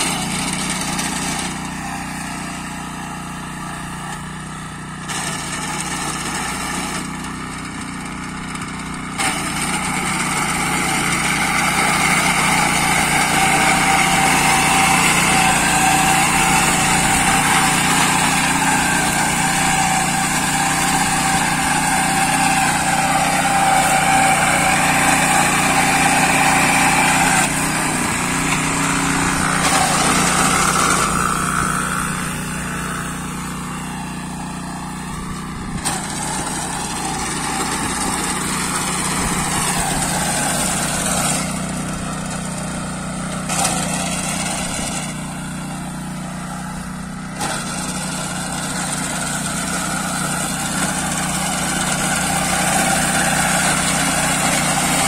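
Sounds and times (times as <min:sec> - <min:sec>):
cutter bar mowing wheat: 0:00.0 - 0:55.0
small engine running: 0:00.0 - 0:55.0.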